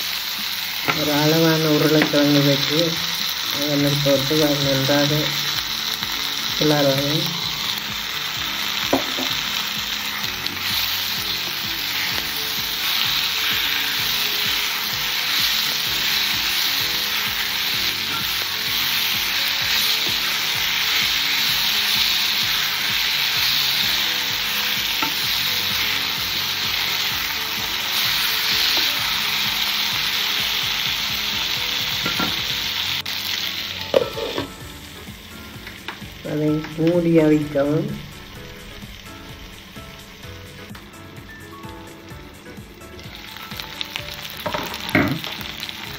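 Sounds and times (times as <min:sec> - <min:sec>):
vegetables sizzling in hot oil: 0:00.0 - 0:45.9.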